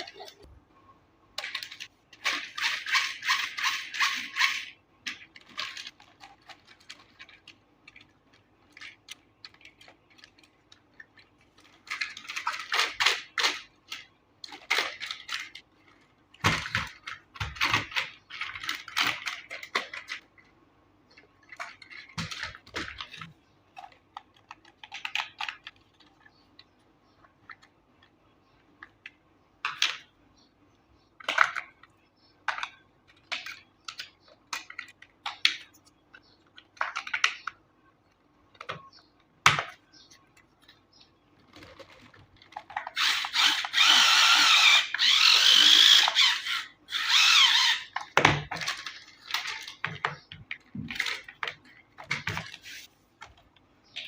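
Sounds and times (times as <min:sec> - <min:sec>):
toy packaging rustling and clicking: 0:01.3 - 0:30.4, 0:31.1 - 0:54.0.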